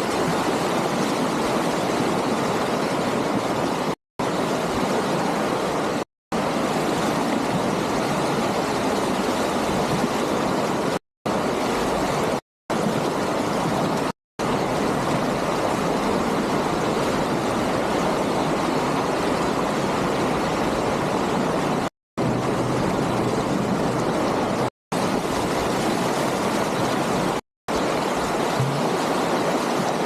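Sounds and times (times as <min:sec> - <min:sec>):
surf and rushing water: 0:00.0 - 0:30.0.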